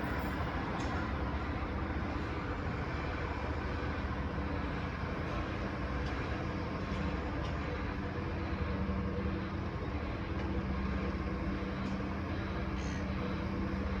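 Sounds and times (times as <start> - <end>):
train engines humming: 0.0 - 14.0.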